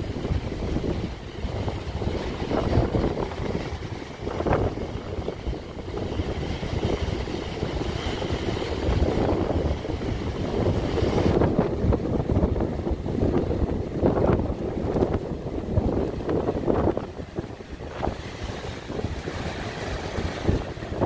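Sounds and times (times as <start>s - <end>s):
waves breaking over rocks: 0.0s - 21.0s
wind buffeting microphone: 0.0s - 21.0s.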